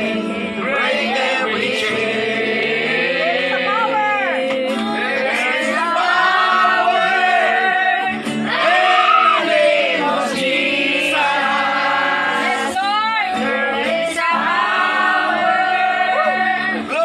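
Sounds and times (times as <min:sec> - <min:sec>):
choir singing gospel song: 0:00.0 - 0:17.0.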